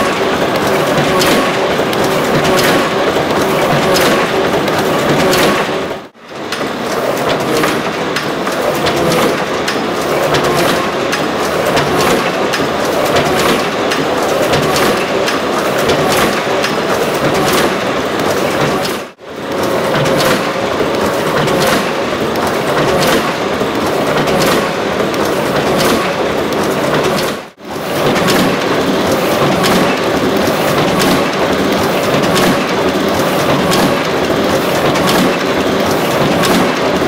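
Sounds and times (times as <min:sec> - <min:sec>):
die-cutting press clattering: 0:00.0 - 0:37.0.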